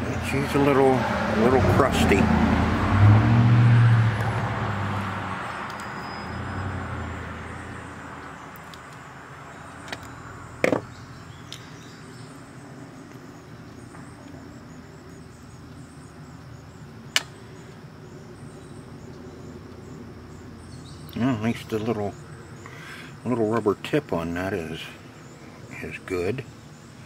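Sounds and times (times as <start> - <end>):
faint insect chirping: 5.0 - 27.0.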